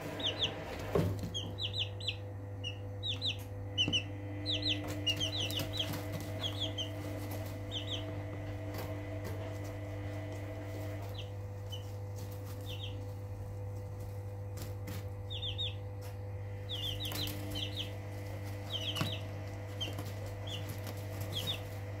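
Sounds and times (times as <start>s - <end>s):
chicks peeping: 0.0s - 22.0s
steady low hum: 0.0s - 22.0s.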